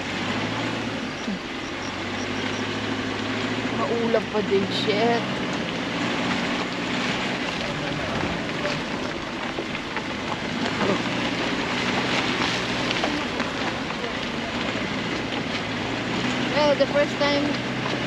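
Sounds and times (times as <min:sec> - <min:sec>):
car engine hum: 0:00.0 - 0:18.0.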